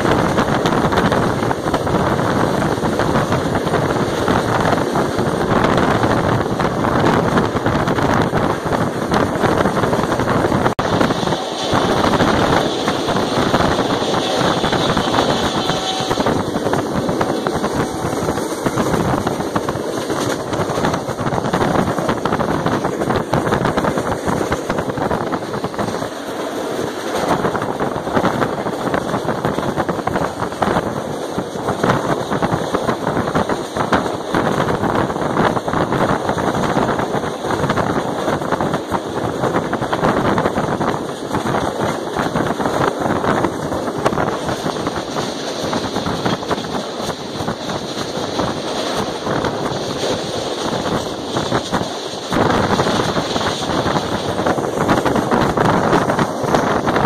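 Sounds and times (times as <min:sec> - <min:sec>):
train wheels clattering on rails: 0:00.0 - 0:57.0
wind rushing over microphone: 0:00.0 - 0:57.0.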